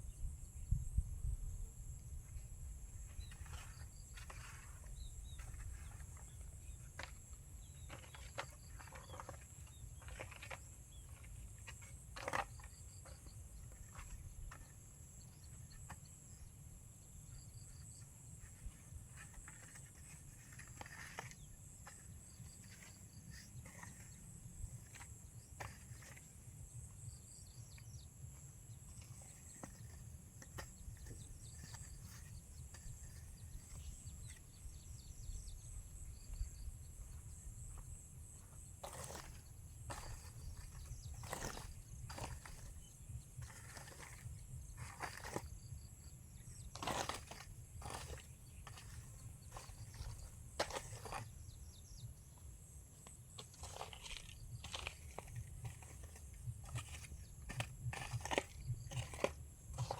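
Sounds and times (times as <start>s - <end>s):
knocks and scrapes from handwork: 3.0s - 16.4s, 17.3s - 45.8s, 46.4s - 52.4s, 53.0s - 59.9s.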